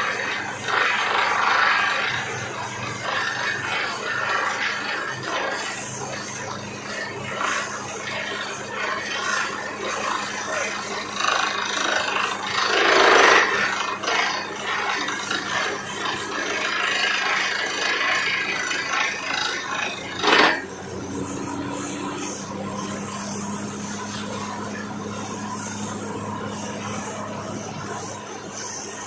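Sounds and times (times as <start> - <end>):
drilling rig low hum: 0.0 - 29.0.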